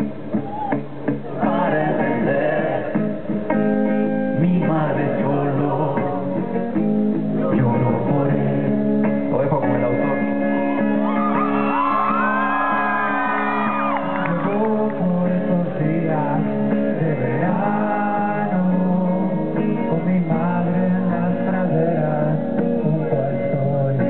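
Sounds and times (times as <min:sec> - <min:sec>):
live rock music through pa: 0:00.0 - 0:24.0
people singing and shouting: 0:00.0 - 0:24.0.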